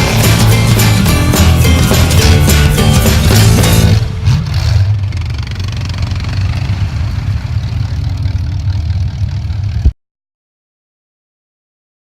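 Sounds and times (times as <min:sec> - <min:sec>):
truck engine idling: 0:00.0 - 0:09.9.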